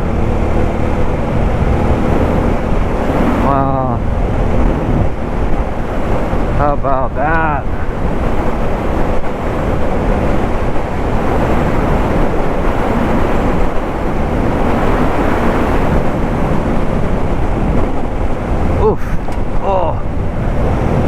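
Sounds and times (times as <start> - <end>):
motorcycle engine: 0.0 - 21.0
wind rushing over microphone: 0.0 - 21.0.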